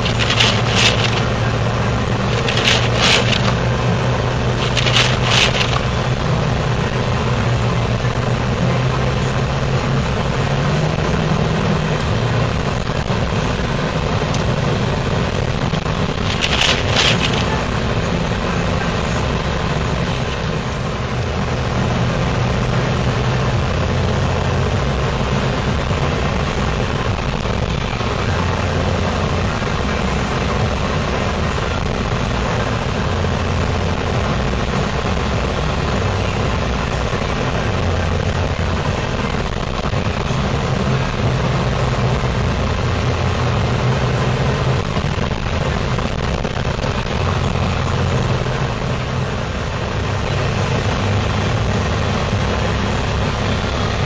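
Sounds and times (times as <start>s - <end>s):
car engine hum: 0.0s - 54.0s
tyre and road noise: 0.0s - 54.0s.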